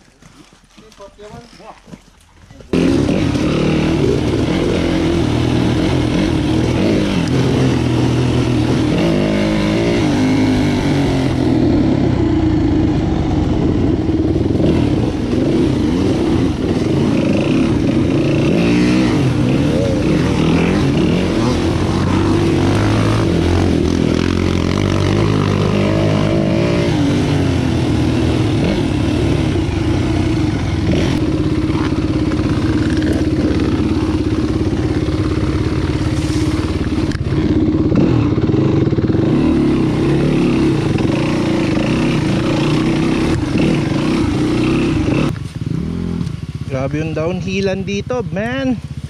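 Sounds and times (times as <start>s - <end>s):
dirt bike engine running: 2.6s - 49.0s.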